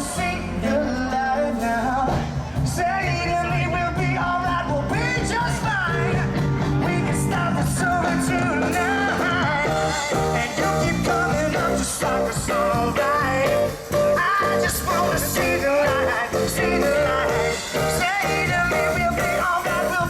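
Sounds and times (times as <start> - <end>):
bass guitar: 0.0 - 20.0
drums: 0.0 - 20.0
electric guitar: 0.0 - 20.0
person singing: 0.0 - 20.0.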